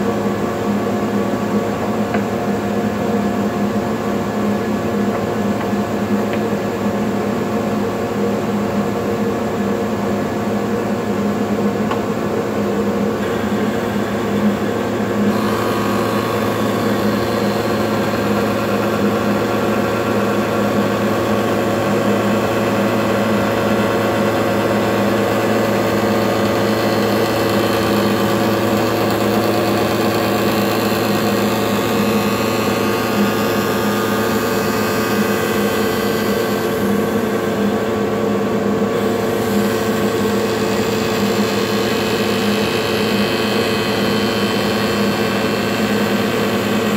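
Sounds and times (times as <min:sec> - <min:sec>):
woodworking machine humming: 0:00.0 - 0:46.9.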